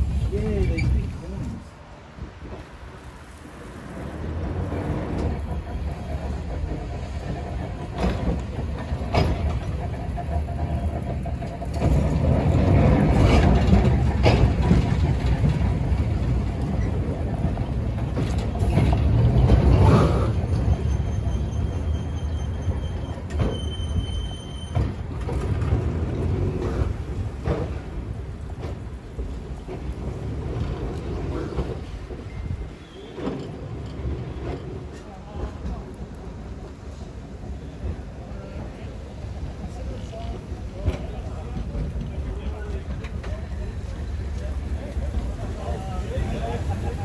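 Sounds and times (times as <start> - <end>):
tram rumbling past: 0.0 - 47.0.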